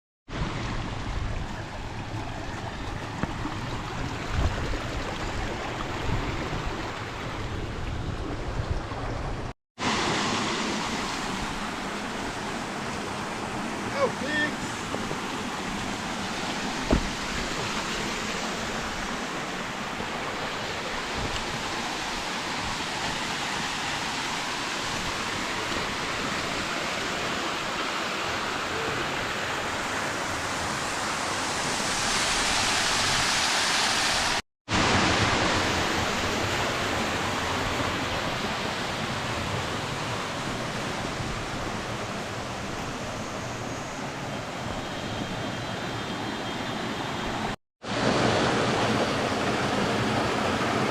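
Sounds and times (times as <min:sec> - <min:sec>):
waterfall rushing: 0:09.8 - 0:50.9.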